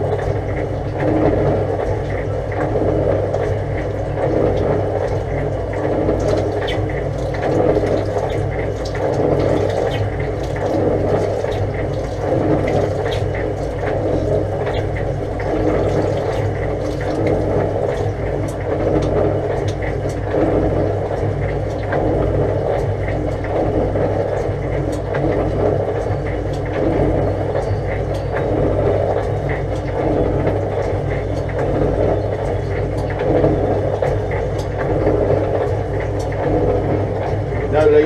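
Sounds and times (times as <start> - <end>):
pump motor hum: 0.0 - 38.0
water rushing through pipes: 0.0 - 38.0.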